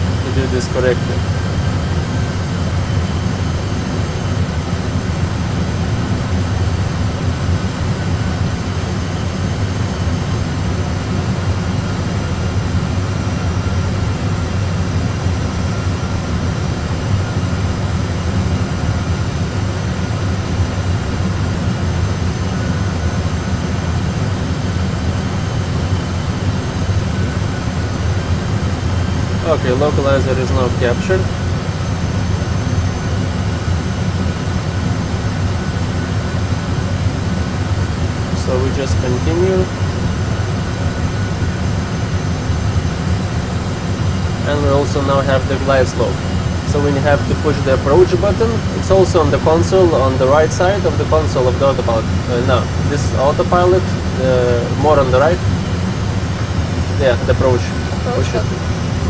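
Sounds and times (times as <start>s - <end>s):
aircraft cockpit engine rumble: 0.0s - 59.0s.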